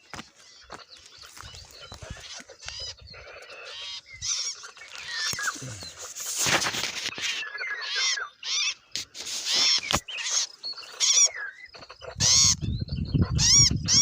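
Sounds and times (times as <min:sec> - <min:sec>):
birds giving harsh calls: 0:00.0 - 0:14.0.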